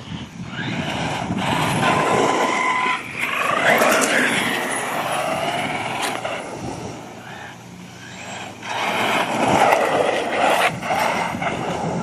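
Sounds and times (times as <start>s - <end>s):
electric rc truck driving: 0.0s - 12.0s.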